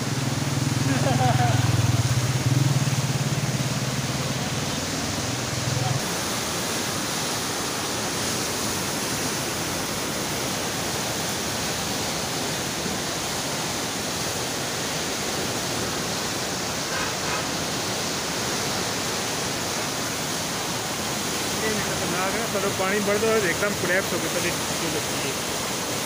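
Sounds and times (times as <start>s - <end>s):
muddy river water rushing: 0.0s - 26.0s.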